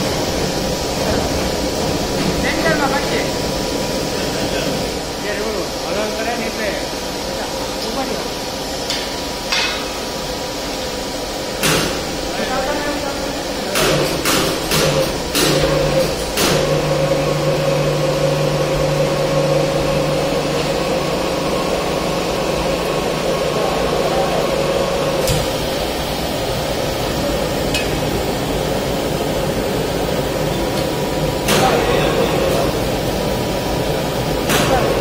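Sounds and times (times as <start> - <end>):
steady machinery hum: 0.0 - 35.0.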